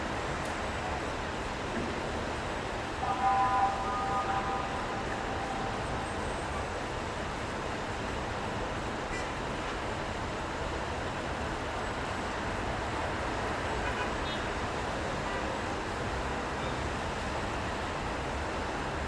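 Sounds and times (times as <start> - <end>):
city street traffic noise: 0.0 - 19.0.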